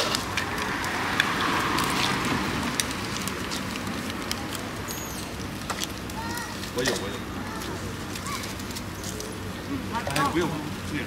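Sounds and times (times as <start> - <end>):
steady roadside hiss: 0.0 - 11.0.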